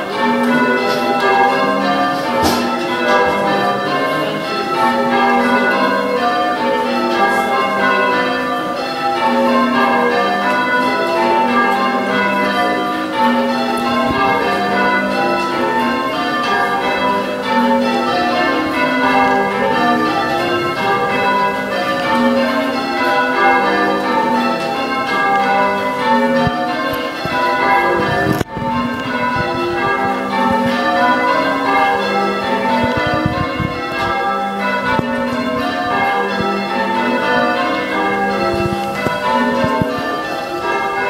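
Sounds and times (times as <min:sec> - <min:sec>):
church bells ringing: 0:00.0 - 0:41.0.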